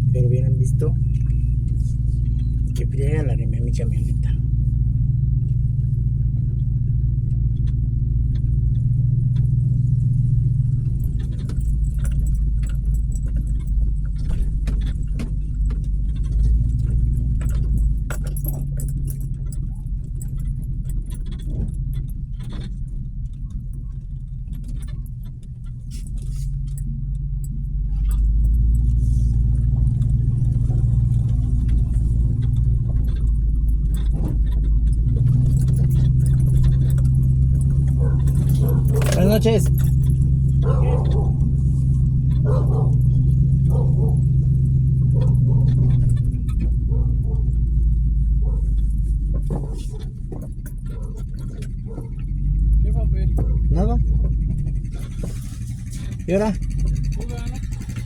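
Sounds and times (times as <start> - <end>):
truck engine running while driving: 0.0 - 58.0
rattling clicks: 10.4 - 58.0.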